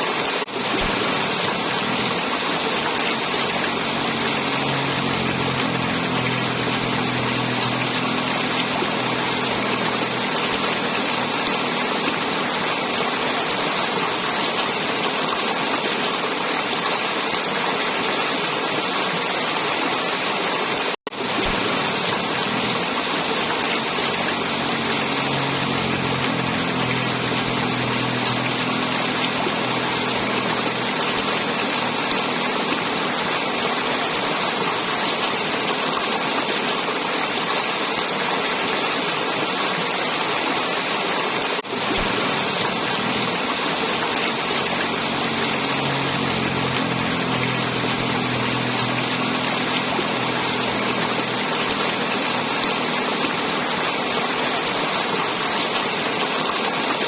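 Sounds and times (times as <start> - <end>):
river water flowing and gurgling: 0.0 - 57.0.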